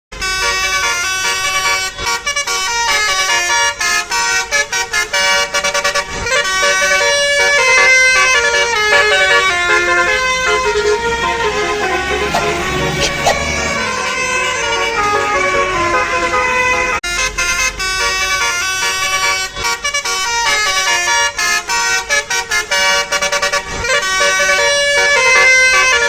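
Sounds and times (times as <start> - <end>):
musical air horn melody: 0.1 - 26.0.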